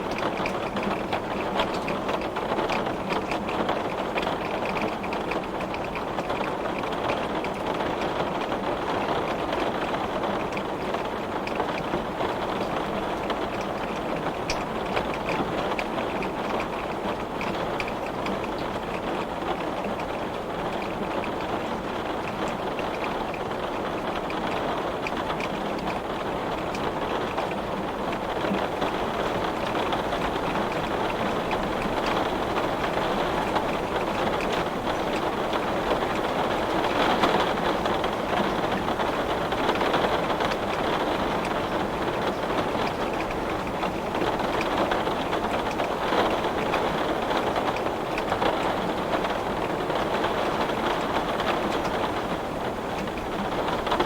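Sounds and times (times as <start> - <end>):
rain drumming on window glass: 0.0 - 54.0.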